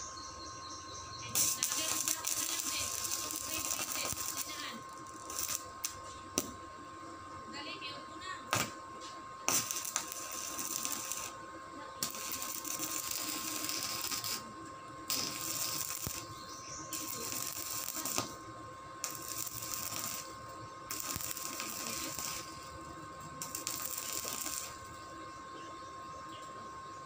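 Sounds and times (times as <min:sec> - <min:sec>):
welding arc crackling and sizzling: 0:01.2 - 0:25.4.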